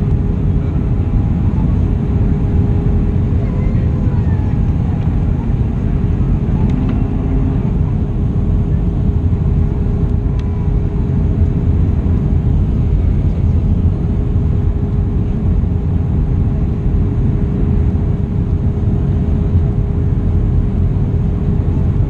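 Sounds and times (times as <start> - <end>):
airplane cabin engine rumble: 0.0 - 22.0
constant hum: 0.0 - 22.0.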